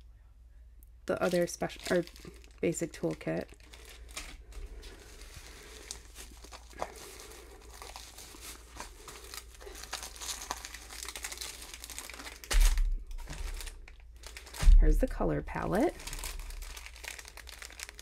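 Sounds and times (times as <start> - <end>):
plastic packaging crinkling: 1.1 - 18.0.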